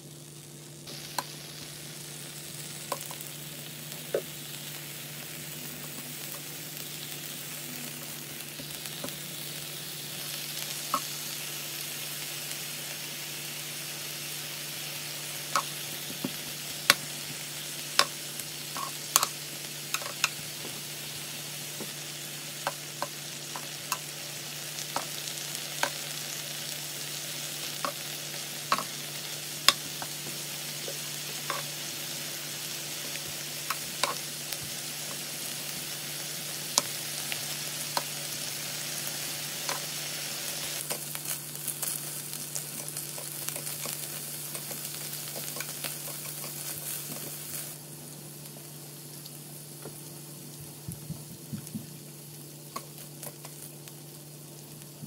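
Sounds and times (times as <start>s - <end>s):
meat sizzling on a grill pan: 0.0s - 55.0s.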